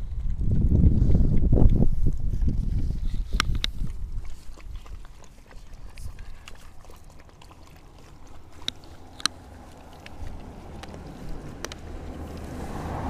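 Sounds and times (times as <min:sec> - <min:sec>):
puppies lapping water: 0:00.0 - 0:13.0.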